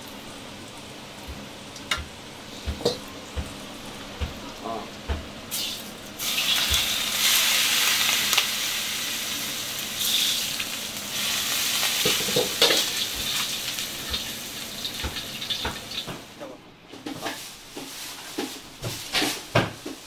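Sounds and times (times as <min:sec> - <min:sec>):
hot oil sizzling: 0:00.0 - 0:16.4.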